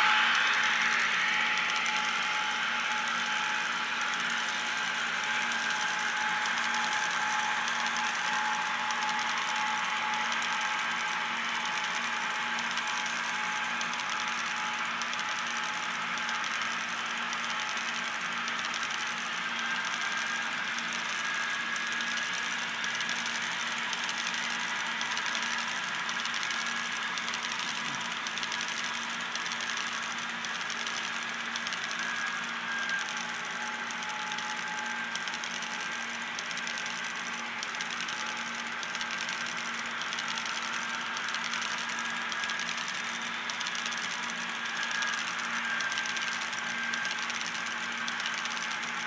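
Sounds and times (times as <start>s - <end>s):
model train wheels on rails: 0.0s - 49.0s.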